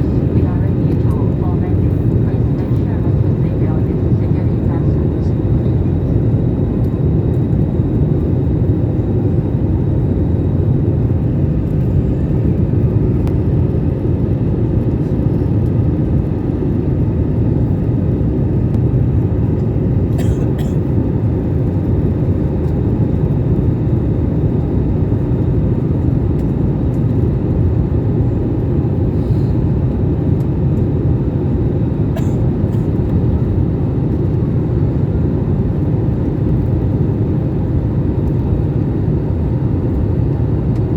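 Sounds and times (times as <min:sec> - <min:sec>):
airliner engines rumbling: 0:00.0 - 0:40.9.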